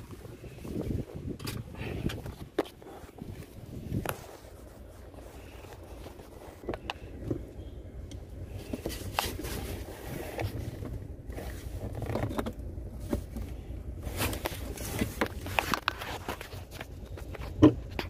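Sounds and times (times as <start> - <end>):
low handling rumble: 0.0 - 18.0.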